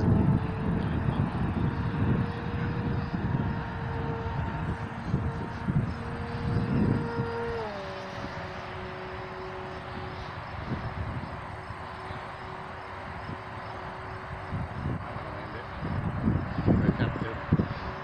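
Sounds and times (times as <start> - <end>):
model plane propeller drone: 0.0 - 18.0
wind rumble on microphone: 0.0 - 18.0.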